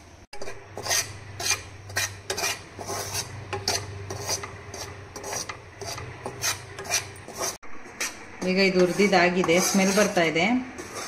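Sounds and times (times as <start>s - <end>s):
spatula scraping flour in a pan: 0.4s - 11.0s.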